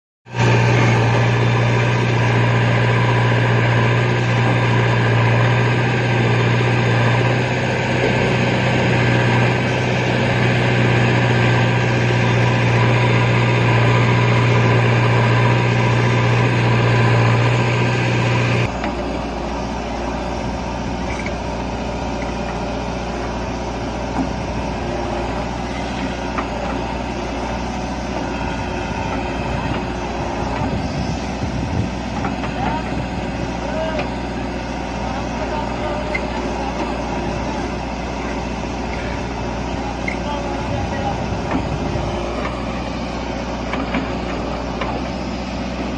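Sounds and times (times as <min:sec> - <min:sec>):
diesel engine drone: 0:00.3 - 0:45.9.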